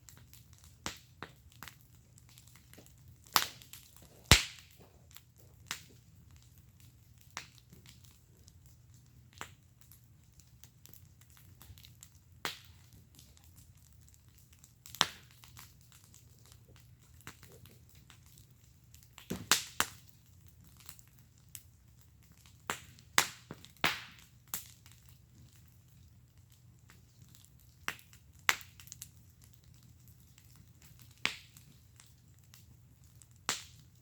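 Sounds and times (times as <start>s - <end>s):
sharp pops from fire: 0.0s - 34.0s
wood fire crackling: 0.0s - 34.0s.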